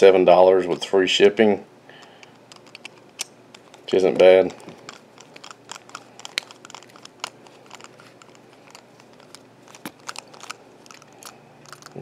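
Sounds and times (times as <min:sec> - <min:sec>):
fingers handling plastic: 0:01.9 - 0:12.0
screwdriver clicking and scraping: 0:02.0 - 0:12.0.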